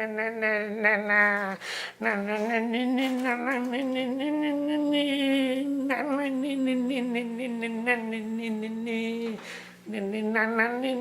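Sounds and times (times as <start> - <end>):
person humming: 0.0 - 11.0.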